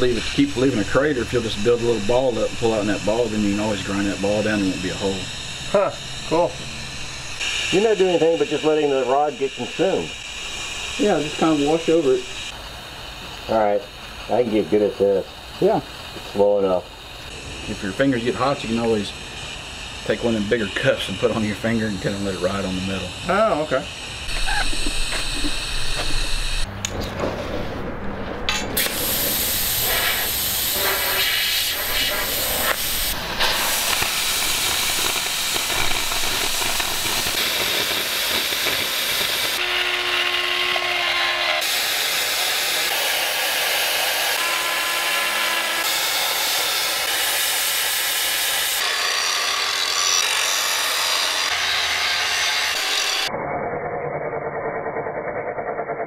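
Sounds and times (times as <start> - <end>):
gas torch hissing: 0.0 - 26.7, 28.5 - 39.8, 41.6 - 48.9
angle grinders cutting steel: 0.0 - 27.1, 28.4 - 53.4.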